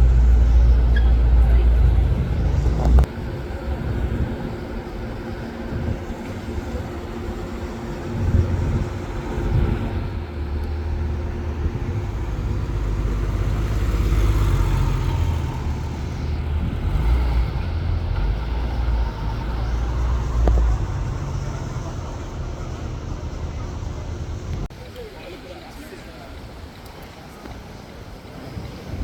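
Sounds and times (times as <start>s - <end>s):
vehicles driving past: 0.0s - 24.7s.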